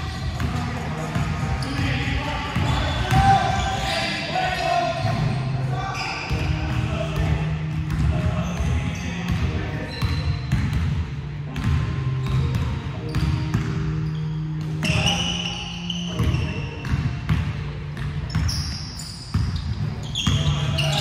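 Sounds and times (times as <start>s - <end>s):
basketballs bouncing on wooden floor: 0.2s - 3.8s, 6.3s - 15.1s, 16.1s - 21.0s.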